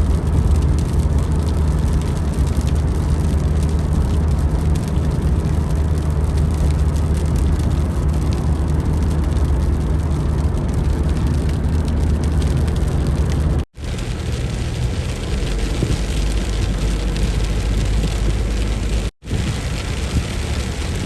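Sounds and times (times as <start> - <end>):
car engine and road rumble: 0.0 - 21.0
rain hissing: 0.0 - 21.0
wet tyres on road: 0.0 - 21.0.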